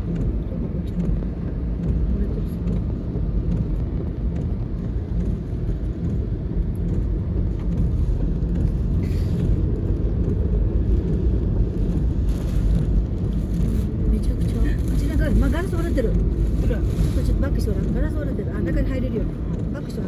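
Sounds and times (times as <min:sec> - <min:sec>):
car cabin rumble: 0:00.0 - 0:20.0.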